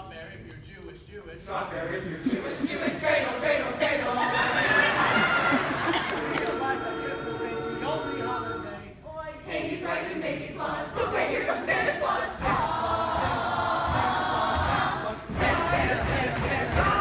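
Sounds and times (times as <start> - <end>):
choir singing in harmony: 1.5 - 17.0.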